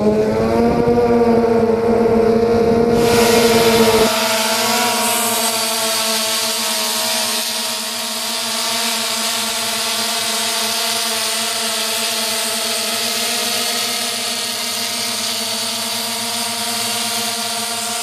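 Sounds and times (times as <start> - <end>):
drone buzzing hum: 0.0 - 18.0.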